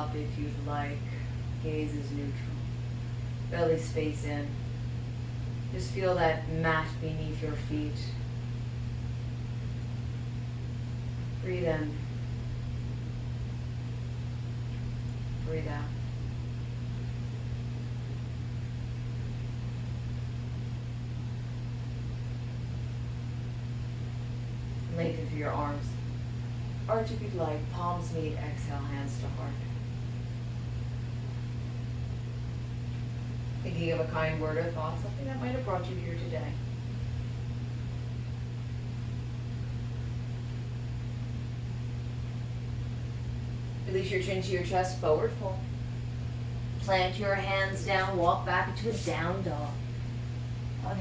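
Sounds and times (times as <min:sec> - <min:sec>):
constant low hum: 0:00.0 - 0:51.0.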